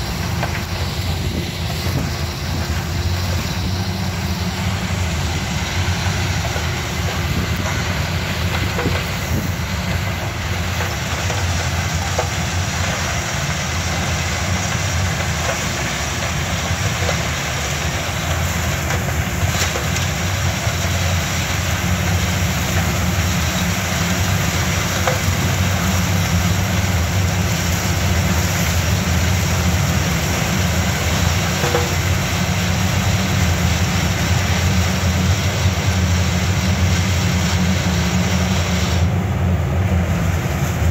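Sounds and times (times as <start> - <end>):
harvester engine and cutters: 0.0 - 40.9.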